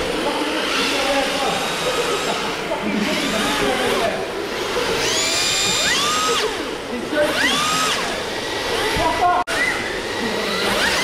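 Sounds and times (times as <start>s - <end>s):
rc car electric motors whining: 0.0s - 11.0s.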